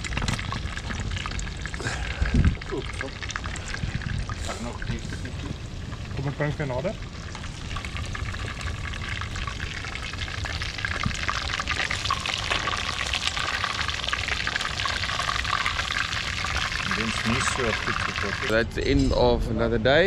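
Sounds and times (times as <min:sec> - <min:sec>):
fish deep-frying in hot oil: 0:00.0 - 0:18.6.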